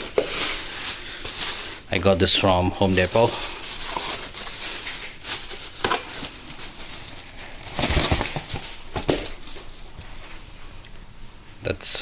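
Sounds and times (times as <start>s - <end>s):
packaging rustling and crinkling: 0.0s - 10.9s.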